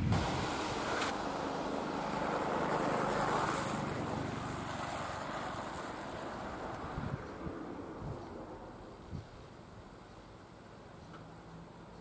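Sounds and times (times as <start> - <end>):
passing vehicle rushing: 0.0 - 10.0.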